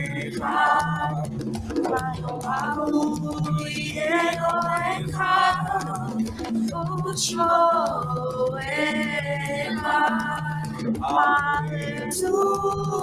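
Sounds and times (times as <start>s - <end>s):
girl singing into microphone: 0.0s - 13.0s.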